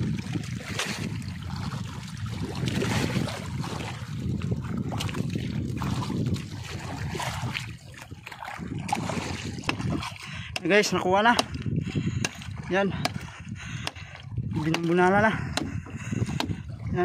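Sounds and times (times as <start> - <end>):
water splashing against boat hull: 0.0 - 17.0.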